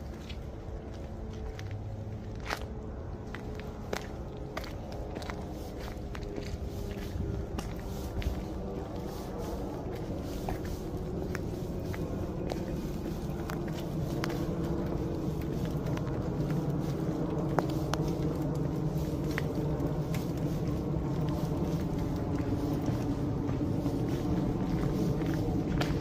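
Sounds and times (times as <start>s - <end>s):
footsteps on wet pavement: 0.0s - 26.0s.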